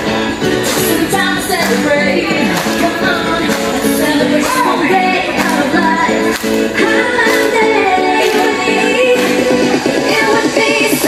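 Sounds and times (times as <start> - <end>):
pop dance music with singing: 0.0 - 11.0.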